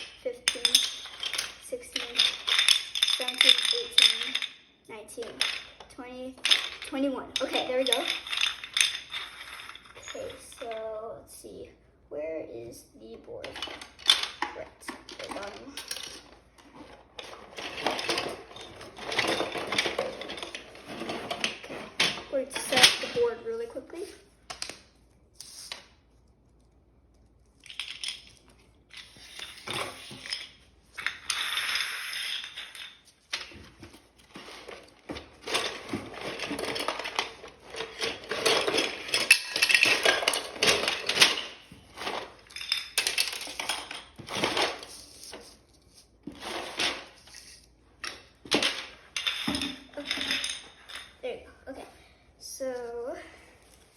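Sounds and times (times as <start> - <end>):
plastic pieces clattering and clicking: 0.0 - 4.6, 5.2 - 10.8, 13.4 - 23.3, 24.4 - 51.2.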